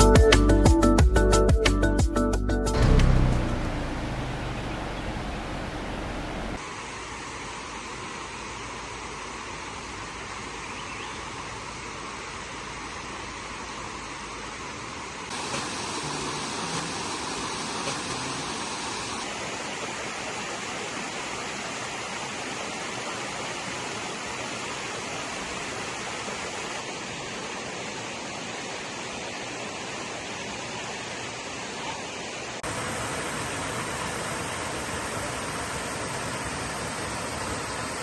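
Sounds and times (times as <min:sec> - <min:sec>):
waterfall roaring: 0:02.8 - 0:10.7, 0:11.3 - 0:38.0.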